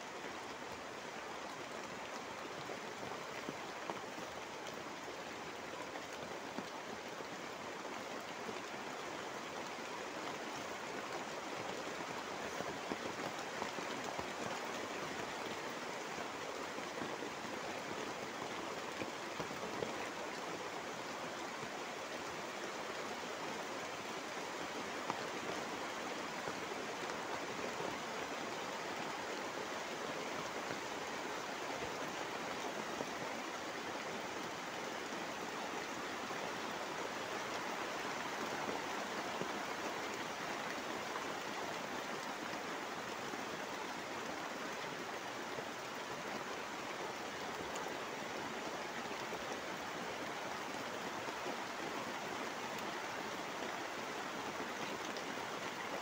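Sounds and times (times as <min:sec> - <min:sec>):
heavy rain on tarpaulin: 0:00.0 - 0:56.0.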